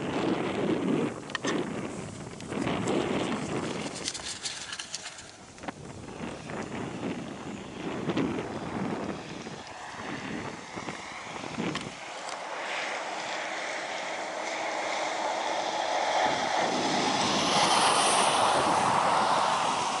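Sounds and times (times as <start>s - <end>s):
steady rushing hiss: 0.0s - 20.0s
wind buffeting microphone: 0.0s - 20.0s.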